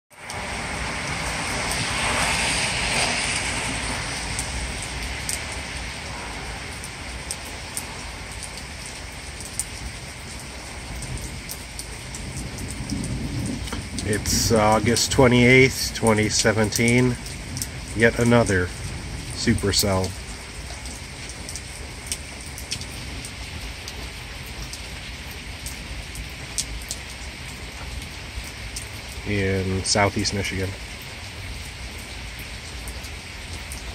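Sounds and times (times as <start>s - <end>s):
heavy rain falling: 0.1s - 33.9s
ticks of nearby raindrops: 0.1s - 33.9s.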